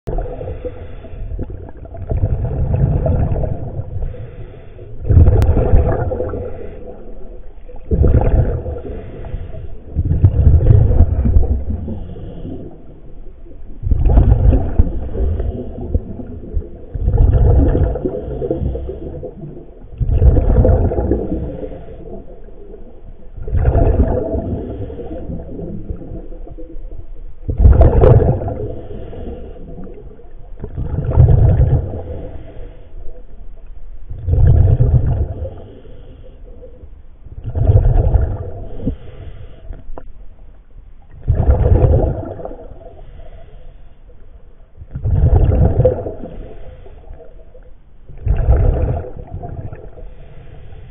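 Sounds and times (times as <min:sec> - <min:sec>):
underwater exhaled bubbles gurgling: 0:00.0 - 0:40.2, 0:41.0 - 0:43.6, 0:44.7 - 0:50.9.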